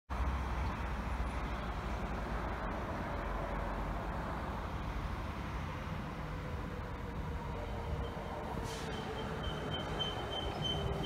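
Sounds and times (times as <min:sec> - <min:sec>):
road traffic rumble: 0:00.1 - 0:11.0.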